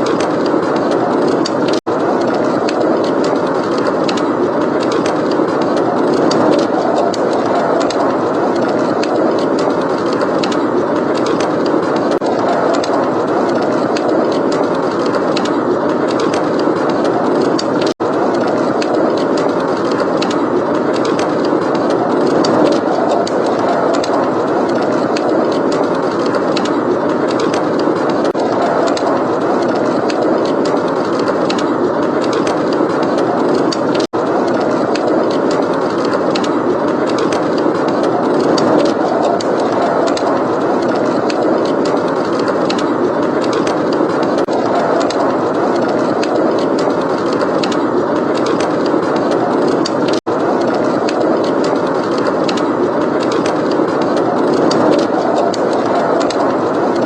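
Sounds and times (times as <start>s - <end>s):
blizzard wind: 0.0s - 57.0s
wood fire crackling: 0.0s - 57.0s.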